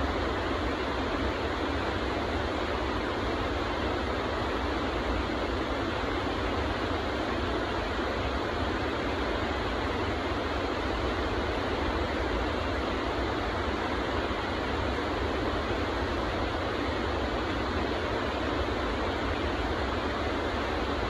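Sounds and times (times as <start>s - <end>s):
creek rushing over boulders: 0.0s - 21.0s.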